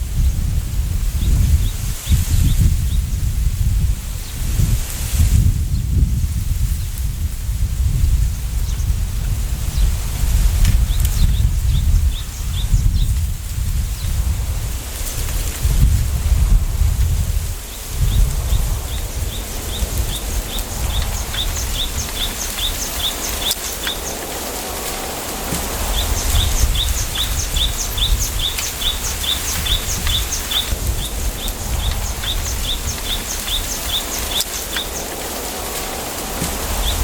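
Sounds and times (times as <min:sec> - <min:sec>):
low wind rumble: 0:00.0 - 0:37.0
wind through bamboo: 0:00.0 - 0:37.0.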